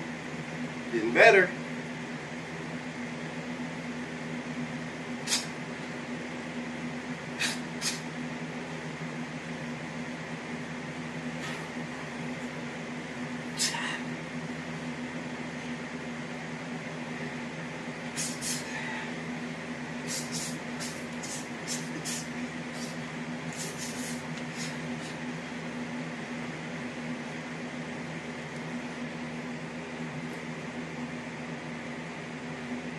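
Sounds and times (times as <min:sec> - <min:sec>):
electrical hum: 0:00.0 - 0:32.9.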